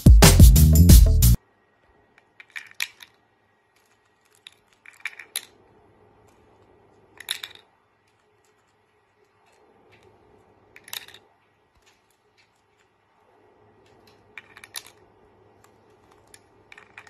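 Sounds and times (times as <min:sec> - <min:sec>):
plastic rings clicking and clattering: 0:02.1 - 0:13.1, 0:13.7 - 0:17.0.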